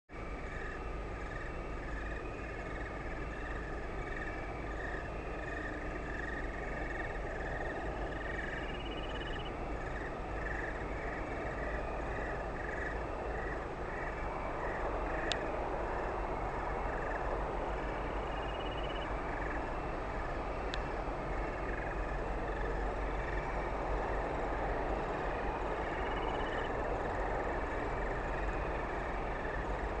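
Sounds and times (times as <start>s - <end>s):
steady rumbling hiss: 0.1s - 30.0s
chorus of chirping creatures: 0.4s - 19.9s, 21.3s - 30.0s.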